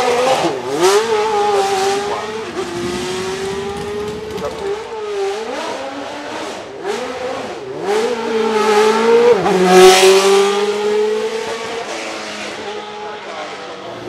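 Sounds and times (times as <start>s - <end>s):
racing car engine at high revs: 0.0s - 14.0s.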